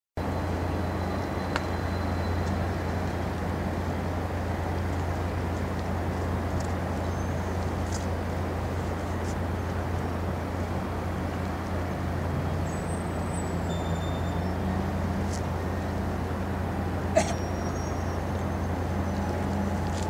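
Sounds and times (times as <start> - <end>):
diesel engines humming: 0.2 - 20.0.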